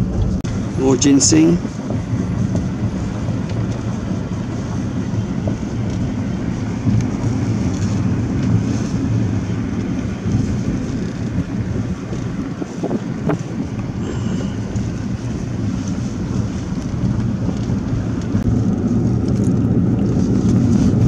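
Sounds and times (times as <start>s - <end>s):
road and engine rumble: 0.0s - 21.0s.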